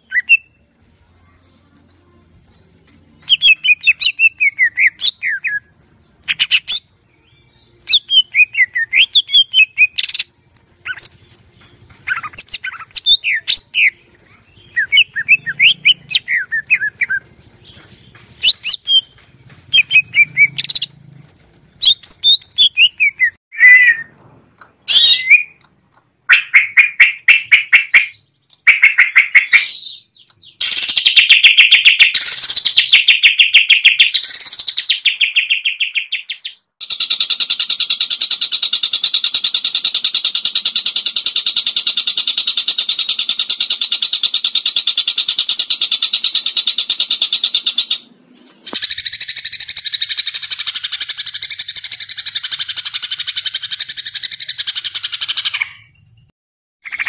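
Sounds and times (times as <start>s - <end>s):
bird chattering and trilling: 3.2s - 6.9s, 7.9s - 20.9s, 24.8s - 48.1s, 48.7s - 57.0s.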